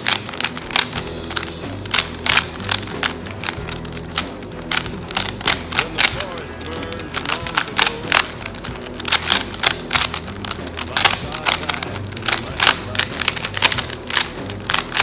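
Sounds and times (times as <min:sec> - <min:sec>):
plastic puzzle cube clicking: 0:00.0 - 0:15.0.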